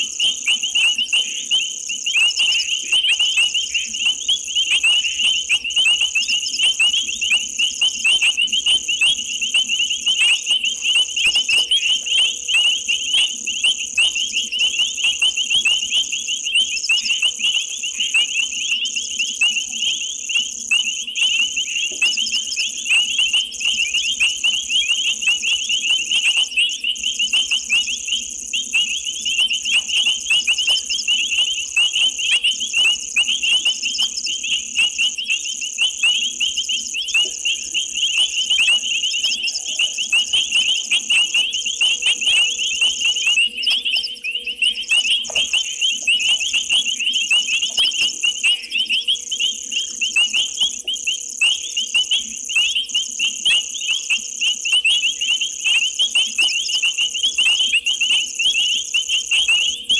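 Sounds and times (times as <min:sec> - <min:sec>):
frogs and insects chirping: 0:00.0 - 0:59.9.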